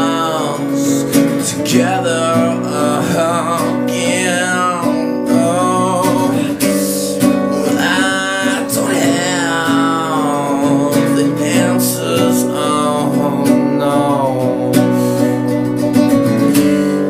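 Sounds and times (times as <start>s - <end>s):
classical guitar playing: 0.0s - 17.0s
man singing: 0.0s - 17.0s.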